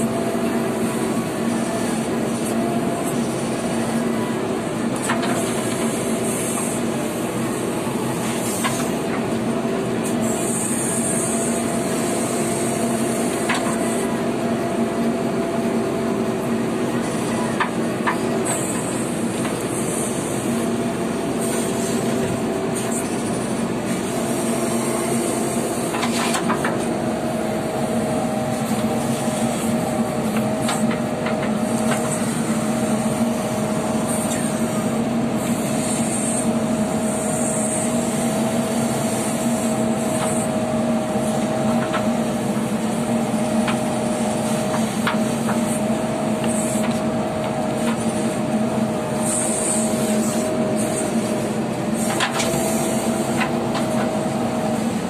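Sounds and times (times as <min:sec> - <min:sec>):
diesel engine and hydraulics running: 0:00.0 - 0:55.0
steady whine: 0:00.0 - 0:55.0.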